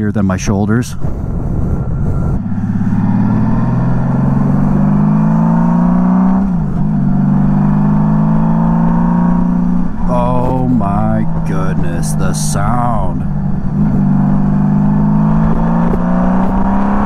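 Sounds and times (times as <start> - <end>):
motorcycle engine accelerating: 1.0 - 17.0.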